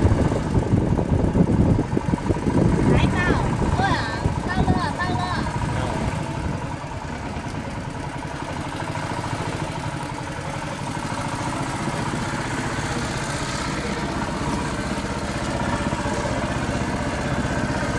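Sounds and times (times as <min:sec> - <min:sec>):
boat engine running: 0:00.0 - 0:17.9.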